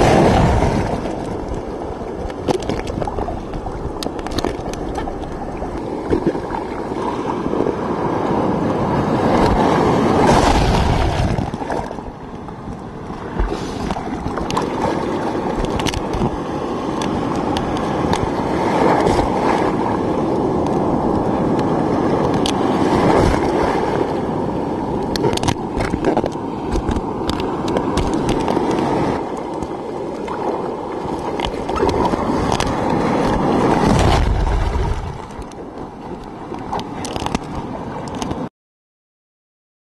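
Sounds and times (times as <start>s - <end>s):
water sloshing and gurgling: 0.0s - 38.5s.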